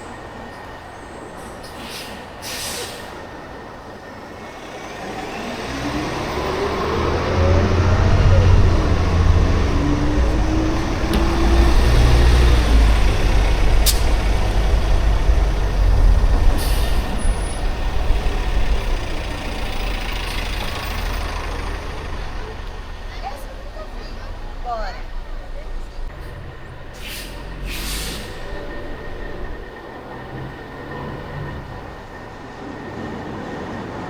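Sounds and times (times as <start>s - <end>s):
heavy vehicle engine rumble: 0.0s - 33.6s.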